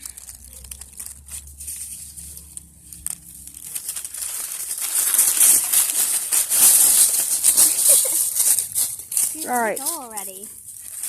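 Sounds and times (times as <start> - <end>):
rustling crinkling crackles: 0.0 - 11.0.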